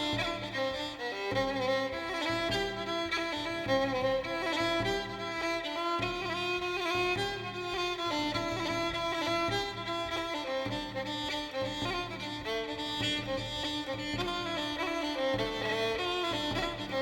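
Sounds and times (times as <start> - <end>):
lower bowed strings: 0.0 - 17.0
violin slow held notes: 0.0 - 17.0.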